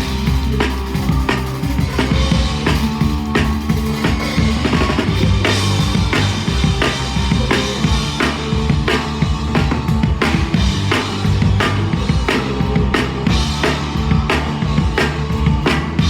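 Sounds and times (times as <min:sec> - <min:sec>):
drum kick and snare beats: 0:00.0 - 0:16.0
live rock band playing: 0:00.0 - 0:16.0.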